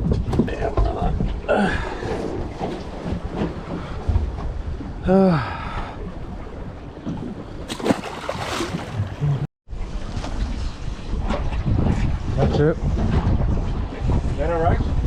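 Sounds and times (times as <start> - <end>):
sea and boat noise: 0.0 - 15.0
wind on microphone: 0.0 - 15.0.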